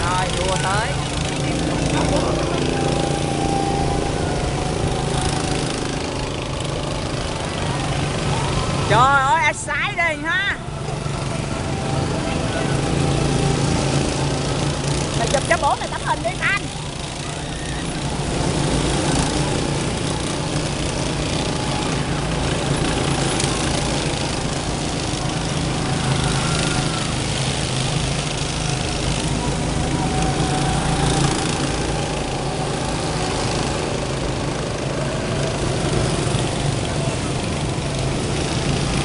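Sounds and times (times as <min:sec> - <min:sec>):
go-kart engines droning: 0:00.0 - 0:39.0
go-kart passing close by: 0:00.0 - 0:39.0.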